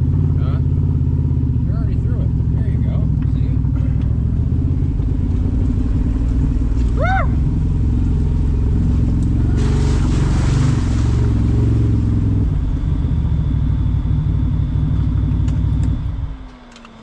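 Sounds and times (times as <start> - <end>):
engine running hard under load: 0.0 - 17.0.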